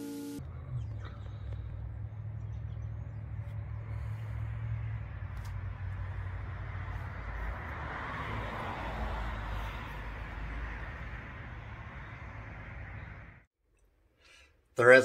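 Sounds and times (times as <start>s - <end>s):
car passing: 0.4s - 13.5s.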